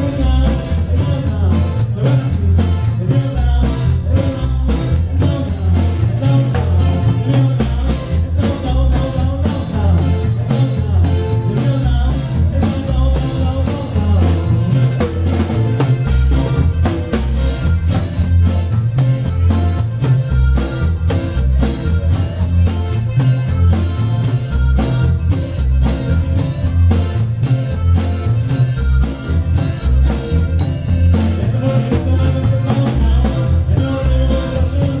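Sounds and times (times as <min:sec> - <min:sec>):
bass line: 0:00.0 - 0:35.0
drum kit: 0:00.0 - 0:35.0
guitar: 0:00.0 - 0:35.0.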